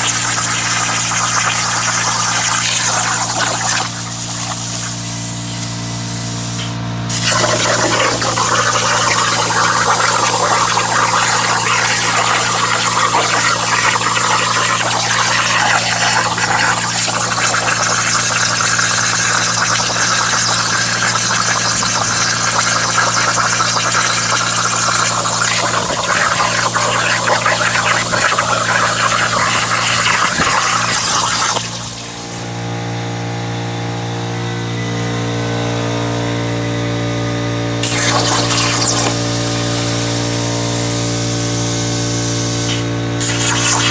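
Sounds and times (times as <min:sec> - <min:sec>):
plasma cutter hissing arc: 0:00.0 - 0:32.6, 0:37.8 - 0:43.9
machine hum with whining tones: 0:00.0 - 0:43.9.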